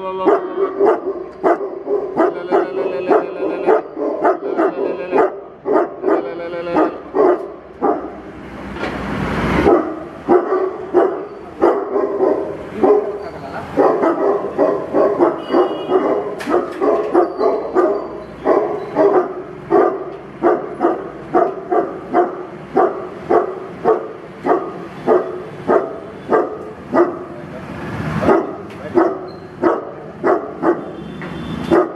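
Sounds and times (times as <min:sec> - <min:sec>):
dog barking deeply: 0:00.1 - 0:08.3, 0:09.6 - 0:27.4, 0:28.1 - 0:31.0.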